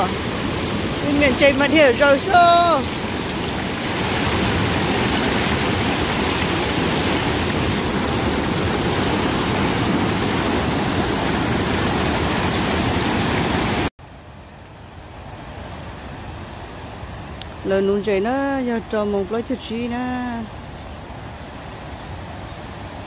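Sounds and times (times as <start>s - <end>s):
flowing water rushing: 0.0s - 19.7s.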